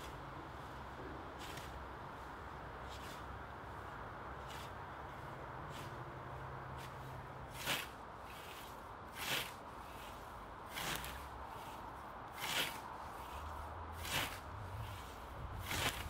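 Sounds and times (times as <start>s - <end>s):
scythe swishing through grass: 0.0s - 16.0s.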